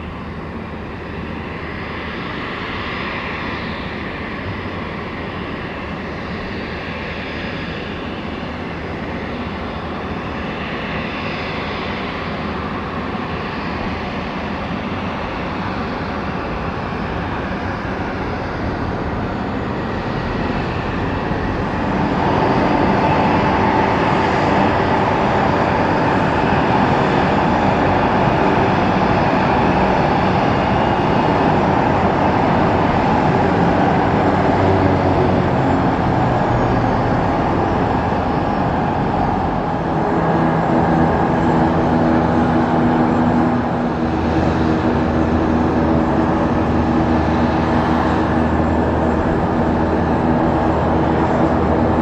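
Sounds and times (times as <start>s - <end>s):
jet engine whine: 0.0s - 52.0s.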